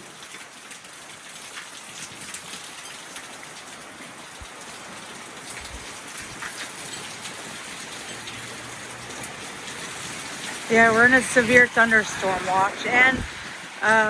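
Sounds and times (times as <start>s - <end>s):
heavy rain in strong wind: 0.0s - 14.0s.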